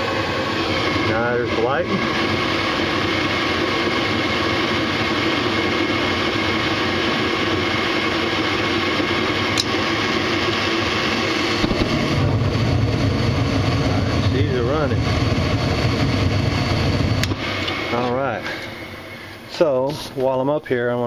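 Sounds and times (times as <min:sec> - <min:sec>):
deep rumble: 0:00.0 - 0:20.2
furnace burners rushing: 0:00.0 - 0:21.0.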